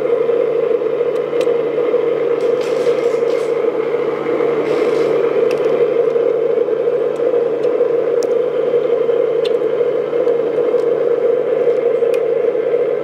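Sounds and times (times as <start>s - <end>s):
motor whir: 2.2s - 12.8s.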